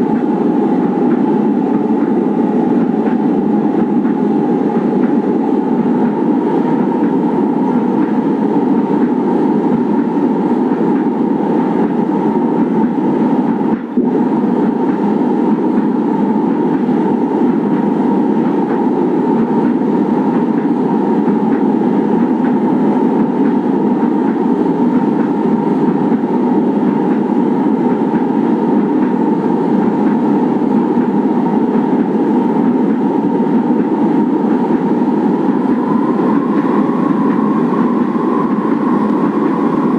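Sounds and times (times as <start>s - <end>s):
steady whine: 0.0s - 39.9s
train rumbling on track: 0.0s - 39.9s.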